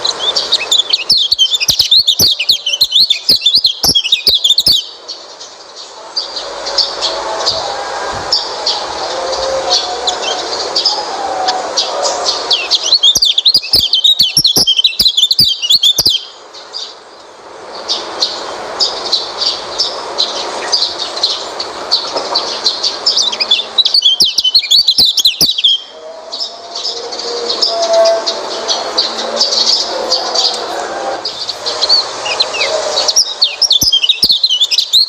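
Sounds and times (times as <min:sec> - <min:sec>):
bird chirping and twittering: 0:00.0 - 0:35.0.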